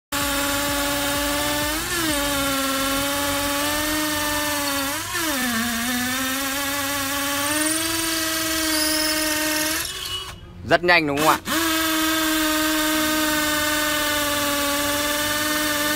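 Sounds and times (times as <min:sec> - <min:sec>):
cordless drill boring into wood: 0:00.1 - 0:10.4, 0:11.2 - 0:15.9.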